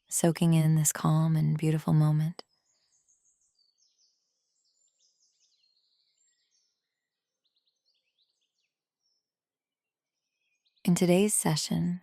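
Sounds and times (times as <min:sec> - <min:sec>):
faint birdsong chirps and trills: 0:00.0 - 0:12.0.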